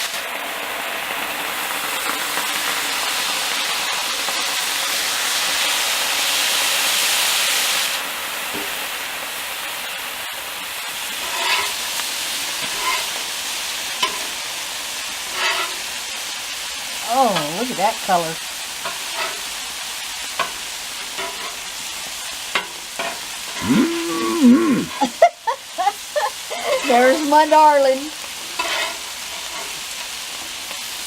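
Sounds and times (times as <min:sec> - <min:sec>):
stock sizzling on hot griddle: 0:00.0 - 0:31.0.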